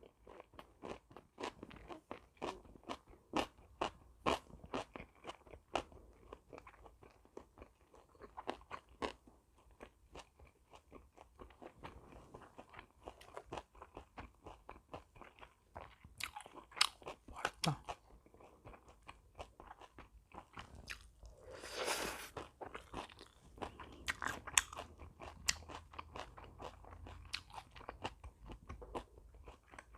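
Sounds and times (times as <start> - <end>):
person chewing crunchy food: 0.0 - 29.9.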